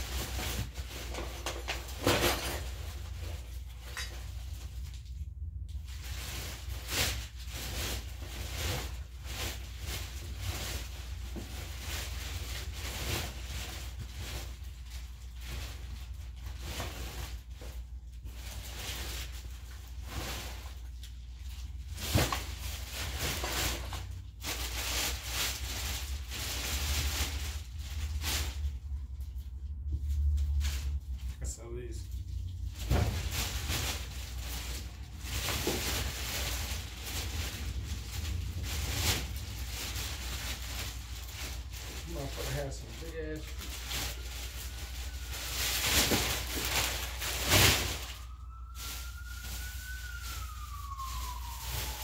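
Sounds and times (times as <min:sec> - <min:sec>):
rustling and handling belongings: 0:00.0 - 0:52.0.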